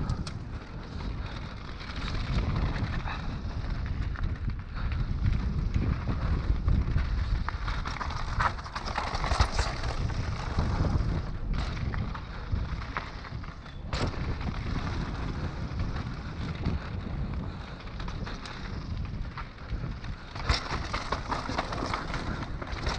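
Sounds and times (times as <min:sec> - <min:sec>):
bike rattling over bumps: 0:00.0 - 0:22.9
wind buffeting microphone: 0:00.0 - 0:22.9.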